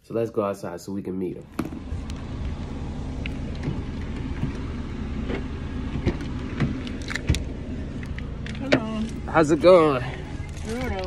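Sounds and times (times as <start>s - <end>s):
car engine running: 1.2s - 11.0s.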